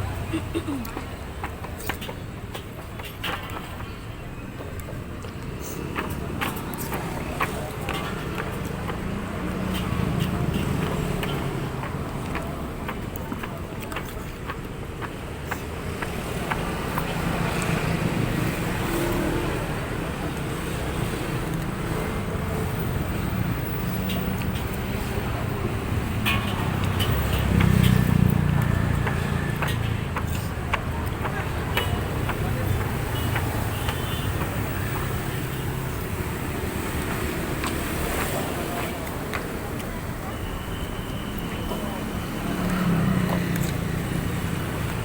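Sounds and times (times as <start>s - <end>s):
road traffic passing: 0.0s - 45.0s.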